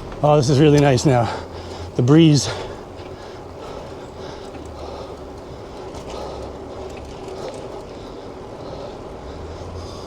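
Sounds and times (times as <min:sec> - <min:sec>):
bicycle rumble: 0:00.0 - 0:10.0.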